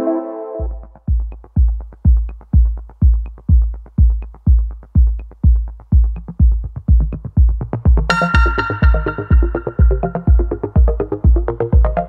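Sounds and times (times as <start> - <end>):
electronic music with deep kick drum: 0.6 - 12.0.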